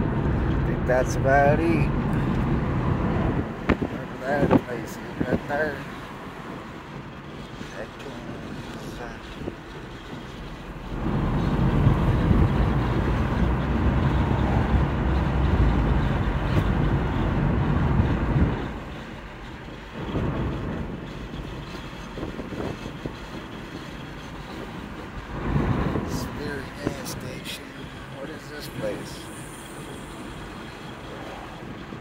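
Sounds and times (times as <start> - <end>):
car road noise rumble: 0.0 - 32.0.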